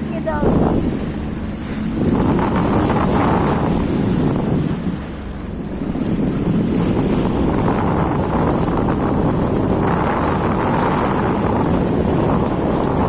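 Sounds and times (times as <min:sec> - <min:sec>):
jet ski engine: 0:00.0 - 0:13.0
water rushing: 0:00.0 - 0:13.0
wind buffeting on microphone: 0:00.0 - 0:13.0.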